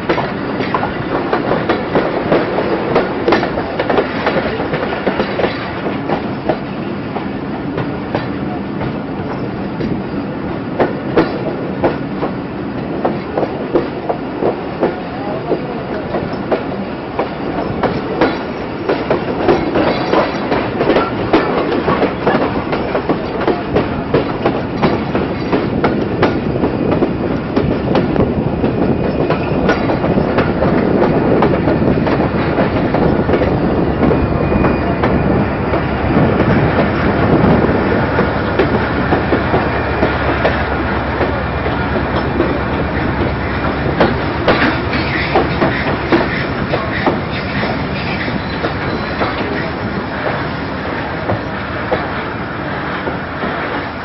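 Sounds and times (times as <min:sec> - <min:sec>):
train rumble: 0:00.0 - 0:54.0
train wheels clattering over rail joints: 0:00.0 - 0:54.0.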